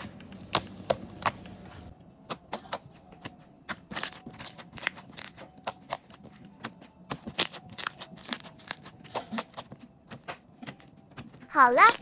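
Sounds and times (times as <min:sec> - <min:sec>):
dough squeezed with sticky pops: 0:02.3 - 0:12.0.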